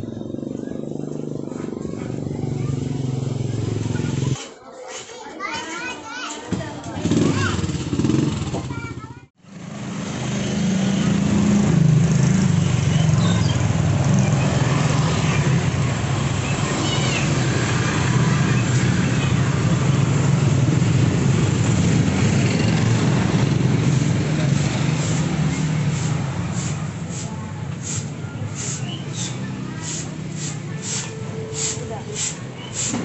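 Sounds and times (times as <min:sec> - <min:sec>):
motorcycle engines droning: 0:00.0 - 0:04.4, 0:06.9 - 0:33.0.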